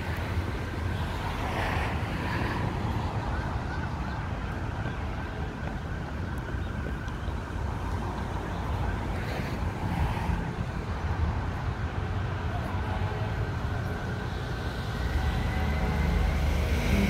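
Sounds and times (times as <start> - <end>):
passing cars rumbling: 0.0 - 17.0.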